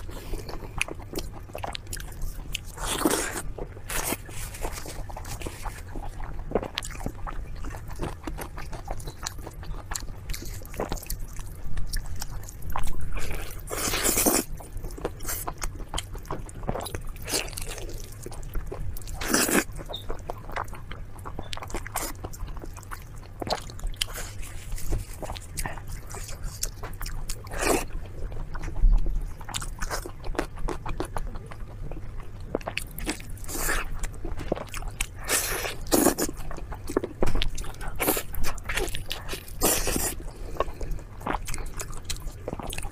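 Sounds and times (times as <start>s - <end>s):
chewing and crunching meat: 0.0s - 42.9s.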